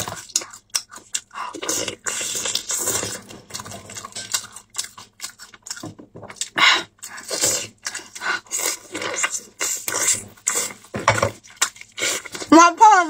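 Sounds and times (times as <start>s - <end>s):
person chewing wetly: 0.0s - 12.5s.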